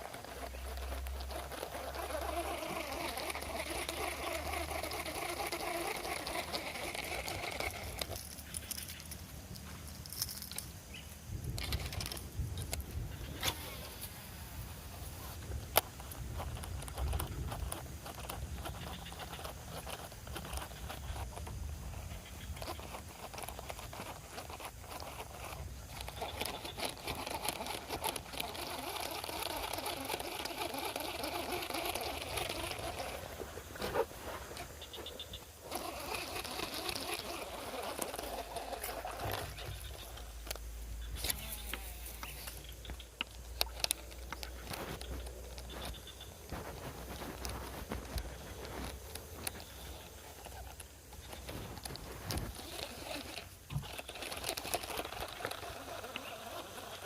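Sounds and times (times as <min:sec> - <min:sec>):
fishing reel winding: 0:00.0 - 0:09.2, 0:15.6 - 0:33.4, 0:34.6 - 0:40.6, 0:41.2 - 0:46.2, 0:47.1 - 0:57.0.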